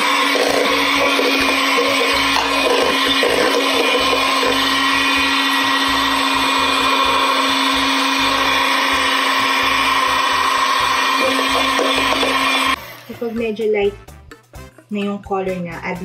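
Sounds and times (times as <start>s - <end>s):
electric mixer whirring: 0.0s - 13.5s.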